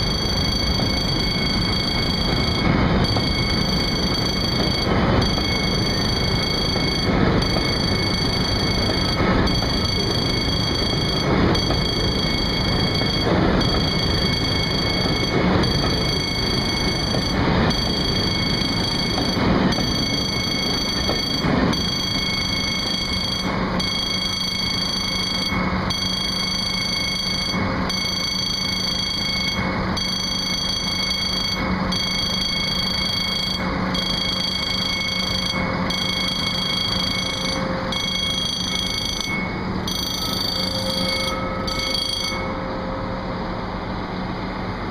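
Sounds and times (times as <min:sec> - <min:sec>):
high-pitched alarm tone: 0:00.0 - 0:44.3
train running through station: 0:00.0 - 0:44.9.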